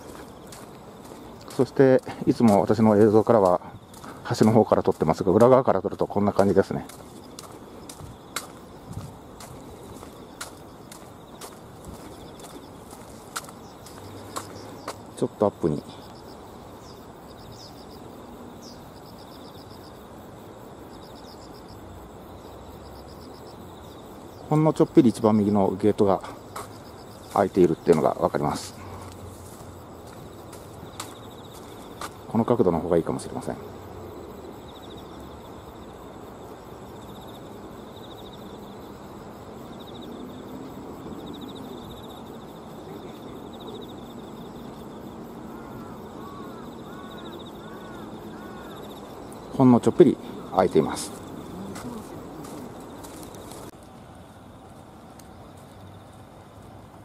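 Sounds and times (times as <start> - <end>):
insects chirping: 0.0 - 57.0
outdoor background noise: 0.0 - 57.0.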